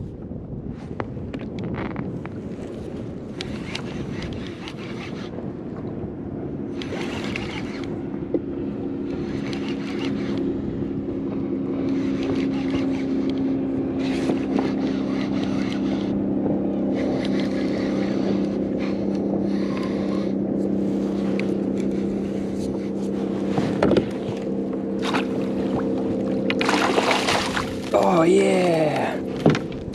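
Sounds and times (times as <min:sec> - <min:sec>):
steady mechanical hum: 0:00.0 - 0:29.9.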